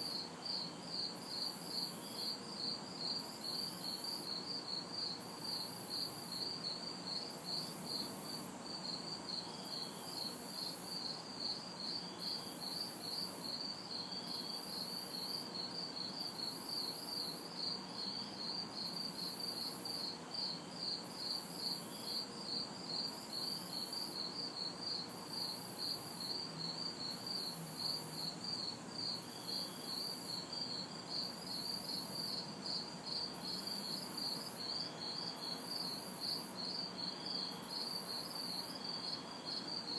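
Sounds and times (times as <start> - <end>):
crickets chirping: 0.0 - 39.9
insect high buzz: 0.0 - 39.9.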